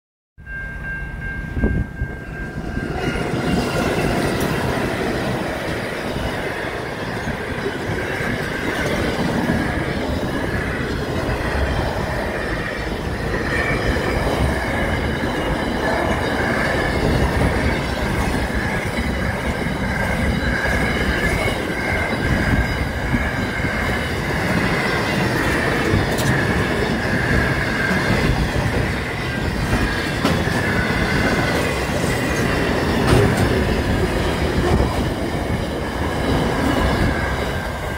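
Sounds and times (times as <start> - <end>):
wheel clatter on rails: 3.1 - 37.9
freight wagons rumbling: 3.2 - 37.9
high wavering wheel squeal: 5.6 - 37.9.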